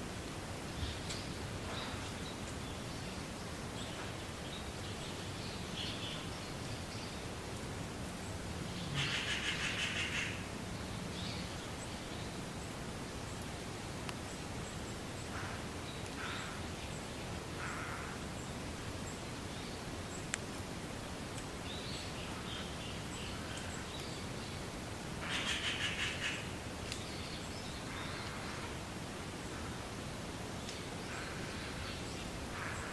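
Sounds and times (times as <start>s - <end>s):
wind rustling through reeds: 0.0s - 32.9s.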